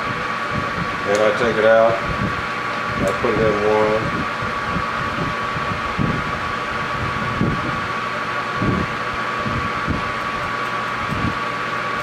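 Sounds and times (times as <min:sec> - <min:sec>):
lathe gear whine: 0:00.0 - 0:12.0.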